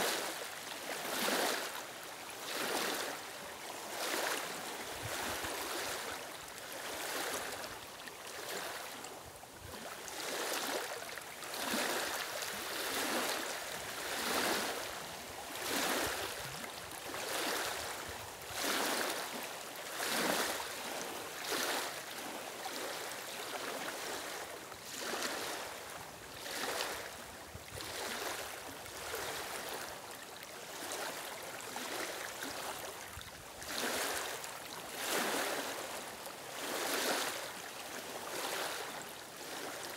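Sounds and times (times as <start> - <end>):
small waves lapping on stones: 0.0 - 39.9.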